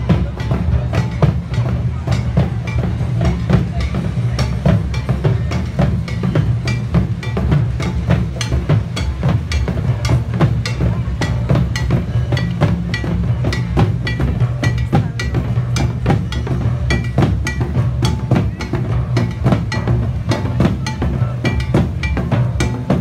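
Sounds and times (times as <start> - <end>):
drums beating fast rhythm: 0.0 - 23.0.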